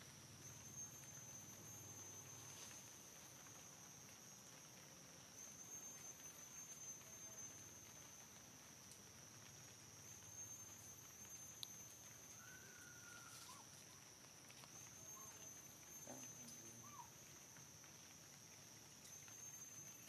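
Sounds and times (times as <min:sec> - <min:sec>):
high-pitched insect drone: 0:00.1 - 0:20.0.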